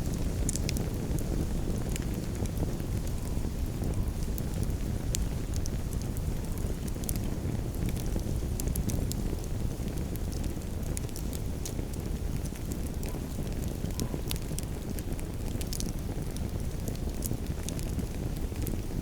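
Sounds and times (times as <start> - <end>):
campfire crackling and popping: 0.0 - 19.0
low fire rushing: 0.0 - 19.0.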